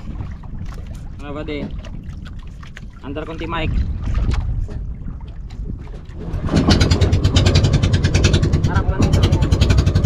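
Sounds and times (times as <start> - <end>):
boat engine putter: 0.0 - 10.0.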